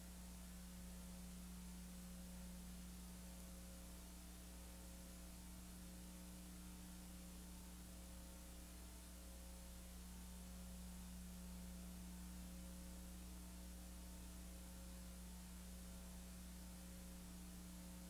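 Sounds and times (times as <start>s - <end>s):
faint mains hum: 0.0s - 18.0s.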